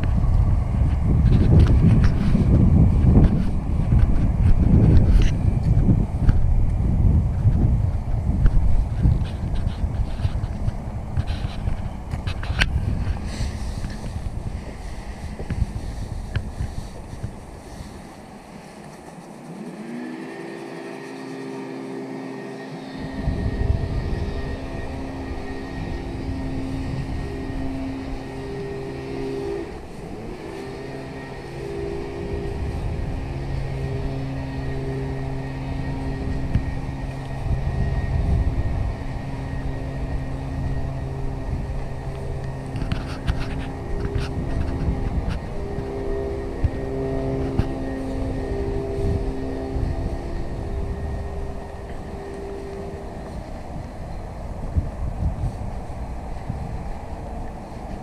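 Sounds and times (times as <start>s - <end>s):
motor whine: 0.0s - 58.0s
wind rumble on microphone: 0.0s - 58.0s.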